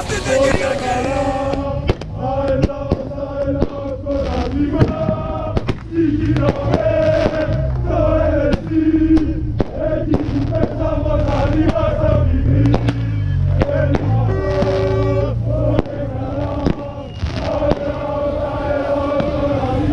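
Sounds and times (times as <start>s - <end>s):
firecracker bangs: 0.0s - 7.7s, 8.4s - 12.0s, 12.6s - 19.9s
crowd chanting in unison: 0.0s - 19.9s.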